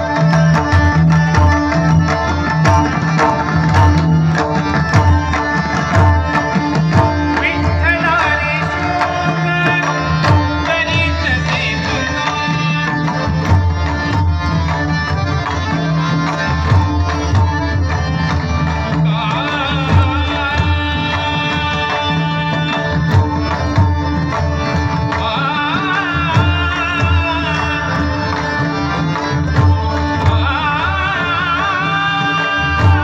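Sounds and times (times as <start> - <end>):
harmonium drone: 0.0 - 33.0.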